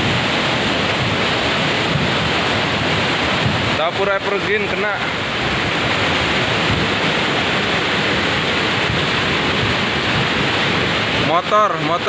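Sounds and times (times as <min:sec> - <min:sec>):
torrent of water rushing: 0:00.0 - 0:12.0.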